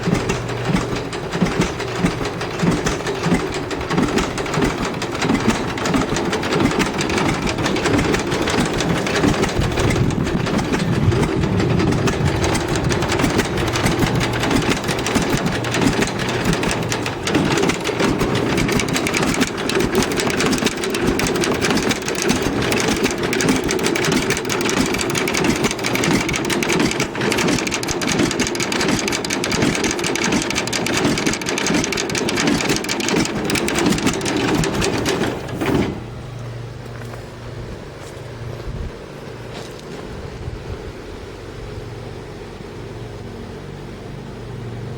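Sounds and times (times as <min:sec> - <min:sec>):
tractor engine pulsing: 0:00.0 - 0:40.2.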